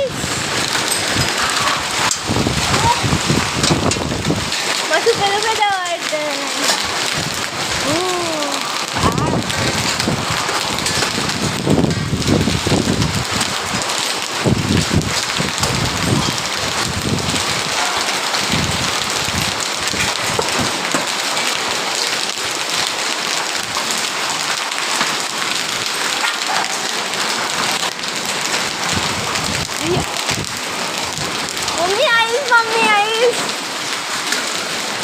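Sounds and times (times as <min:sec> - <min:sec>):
heavy rain and hail falling: 0:00.0 - 0:35.0.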